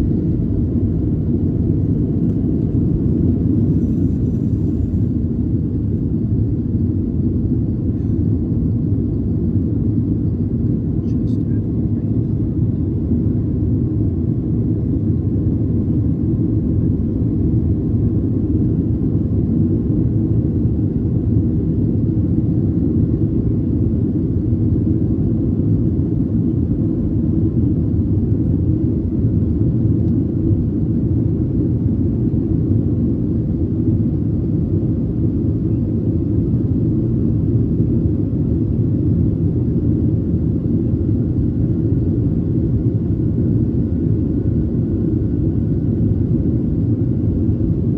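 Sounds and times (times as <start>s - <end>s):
jet engine cabin rumble: 0.0s - 47.9s.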